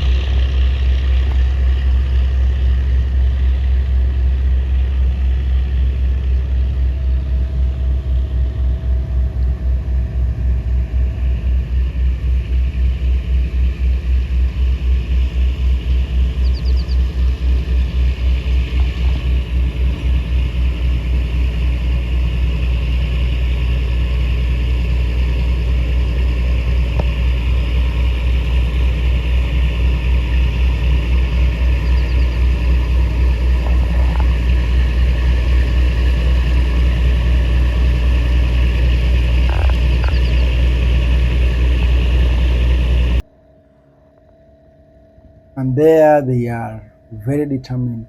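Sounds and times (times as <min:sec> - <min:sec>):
engine throbbing: 0:00.0 - 0:48.0.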